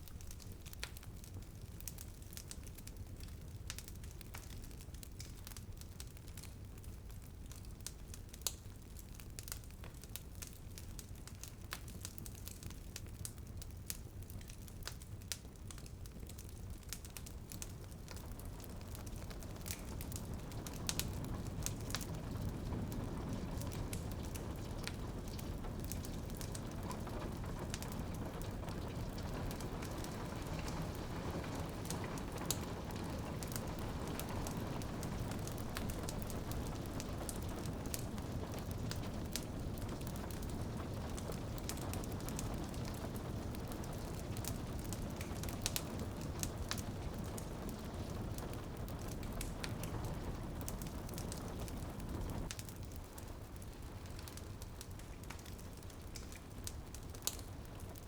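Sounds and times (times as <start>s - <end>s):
rain pattering on a window: 0.0s - 58.0s
wood fire crackling: 0.0s - 58.0s.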